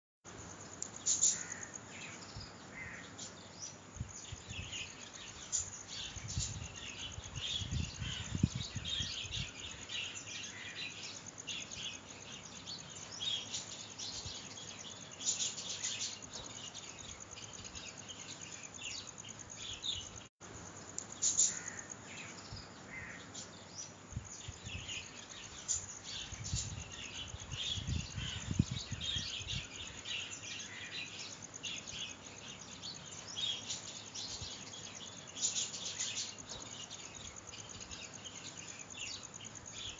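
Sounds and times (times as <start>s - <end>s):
songbirds chirping and twittering: 0.3s - 39.9s.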